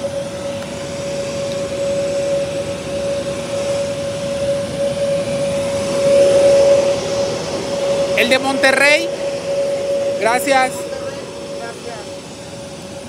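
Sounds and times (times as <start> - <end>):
high whine: 0.0 - 13.0
jet aircraft engine roar: 0.0 - 13.0.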